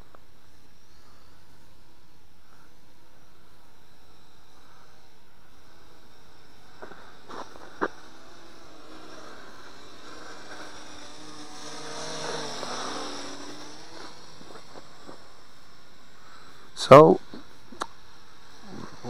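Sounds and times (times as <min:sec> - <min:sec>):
quadcopter propeller whine: 0:00.0 - 0:19.0.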